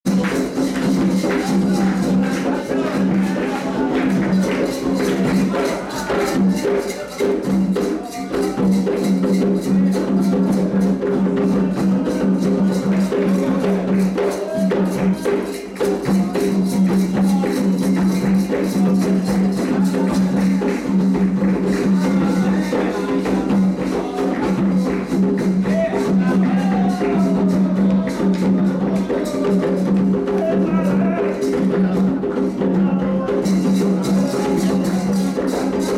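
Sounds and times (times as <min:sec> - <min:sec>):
hand drums: 0:00.0 - 0:35.9.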